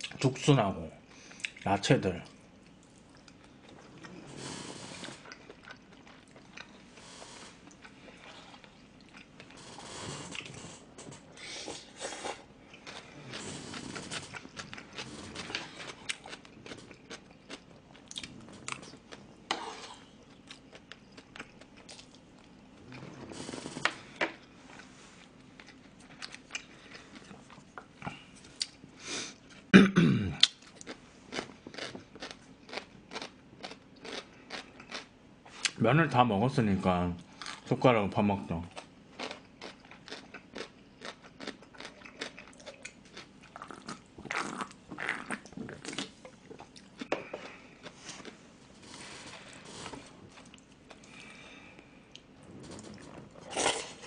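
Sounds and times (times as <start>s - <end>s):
person chewing: 2.3s - 28.8s, 30.4s - 35.8s, 38.7s - 51.4s.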